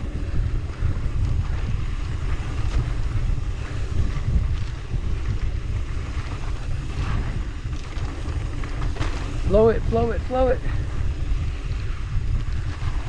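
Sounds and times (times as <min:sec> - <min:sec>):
tyre noise on dirt trail: 0:00.0 - 0:13.0
wind buffeting microphone: 0:00.0 - 0:13.0.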